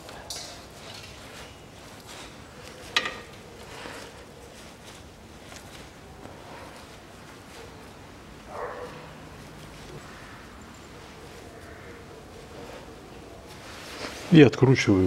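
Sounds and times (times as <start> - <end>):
faint handling noises: 0.0 - 15.0.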